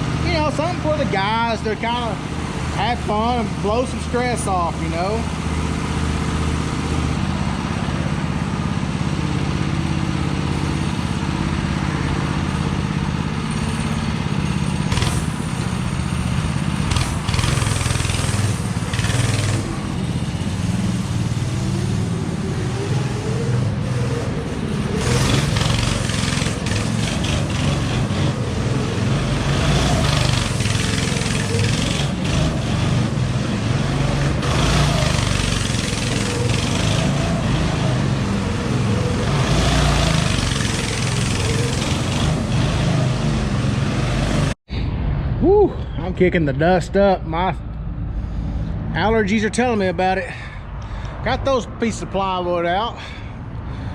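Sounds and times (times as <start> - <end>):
go-kart engine running: 0.0 - 44.6.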